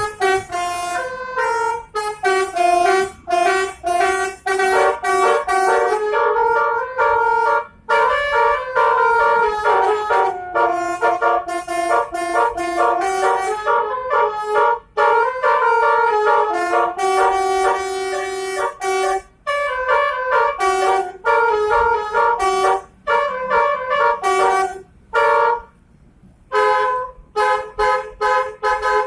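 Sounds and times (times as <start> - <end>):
multi-tone bus horn melody: 0.0 - 25.8, 26.5 - 29.0.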